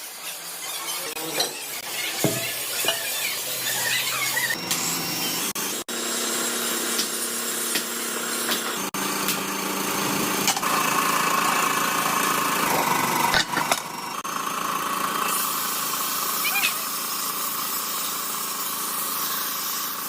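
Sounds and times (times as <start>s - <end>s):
workshop machinery humming: 0.0s - 20.0s.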